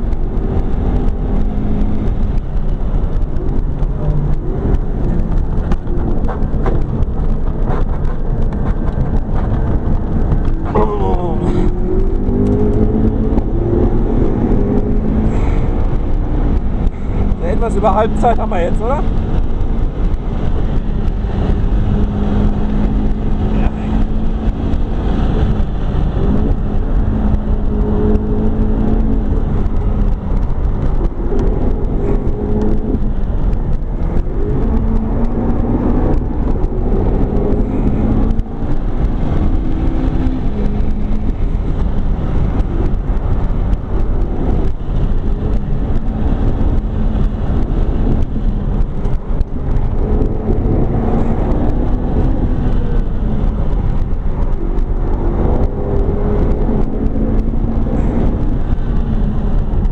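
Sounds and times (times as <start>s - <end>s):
car engine revving: 0.0s - 59.9s
road and tyre noise: 0.0s - 59.9s.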